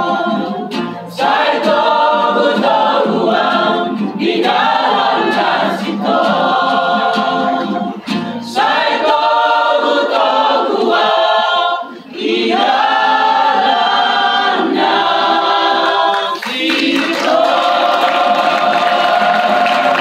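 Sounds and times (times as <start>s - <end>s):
mixed choir singing: 0.0s - 20.0s.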